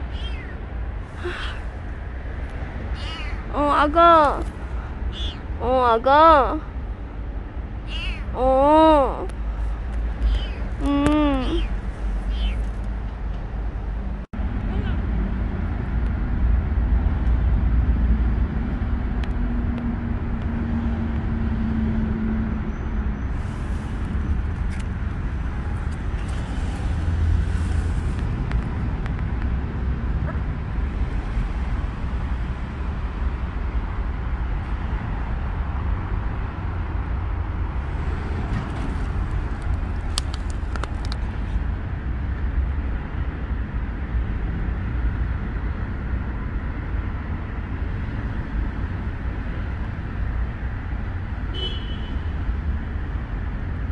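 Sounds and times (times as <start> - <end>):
distant road traffic rumble: 0.0 - 53.9.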